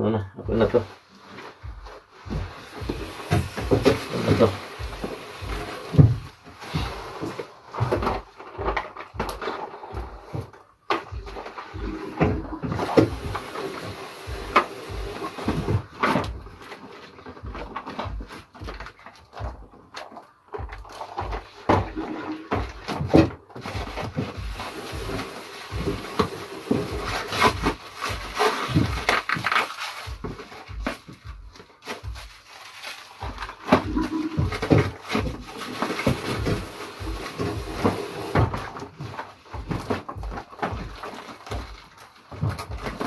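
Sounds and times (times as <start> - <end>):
items knocking in cardboard box: 1.6 - 43.0.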